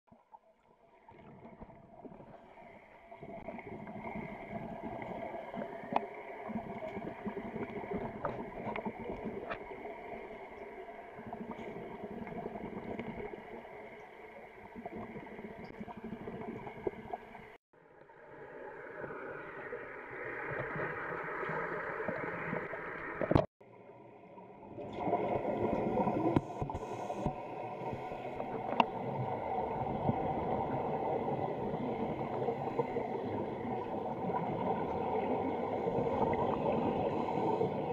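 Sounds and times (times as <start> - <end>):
underwater gurgling and bubbling: 0.1 - 17.6, 18.2 - 37.9.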